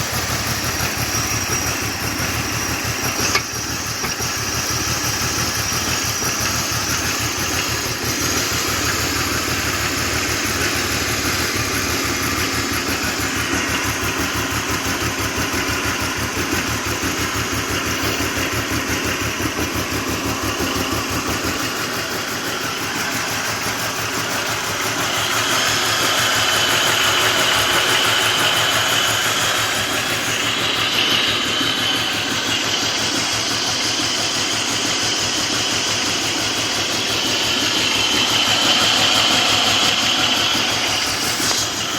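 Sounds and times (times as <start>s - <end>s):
car engine knocking: 0.0s - 41.9s.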